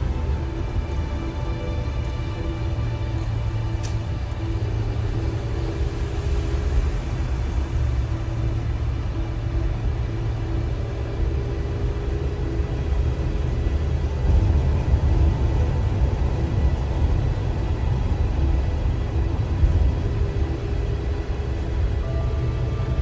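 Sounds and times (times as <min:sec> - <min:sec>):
car tyres and engine rumble: 0:00.0 - 0:23.0
road noise hiss: 0:00.0 - 0:23.0.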